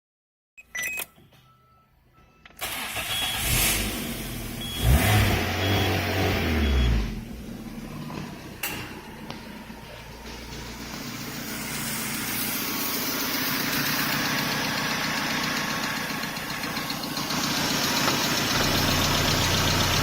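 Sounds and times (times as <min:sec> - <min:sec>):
car engine starting and idling: 0:02.4 - 0:20.0.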